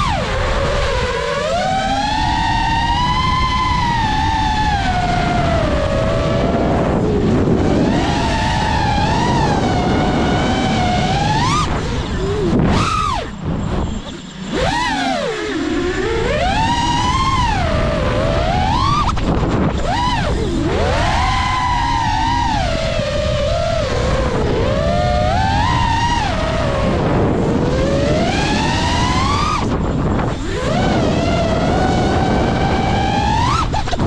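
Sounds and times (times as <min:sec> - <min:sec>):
quadcopter motors whining: 0:00.0 - 0:34.0.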